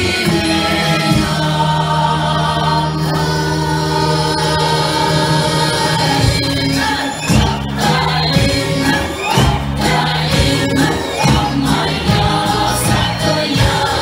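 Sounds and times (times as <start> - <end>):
music with choir-like singing: 0.0 - 14.0.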